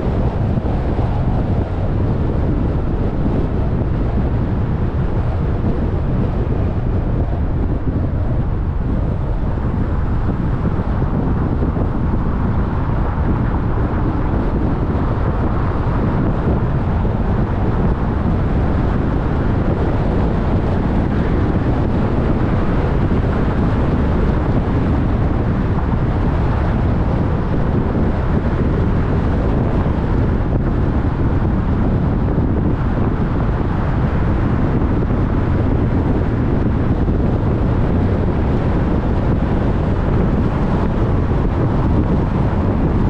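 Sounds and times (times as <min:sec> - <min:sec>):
car tyre and engine rumble: 0:00.0 - 0:43.0
wind noise: 0:00.0 - 0:43.0.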